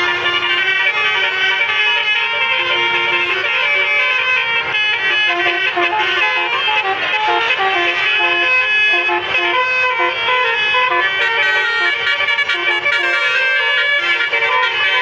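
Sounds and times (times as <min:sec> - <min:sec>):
bus musical air horn tune: 0:00.0 - 0:15.0.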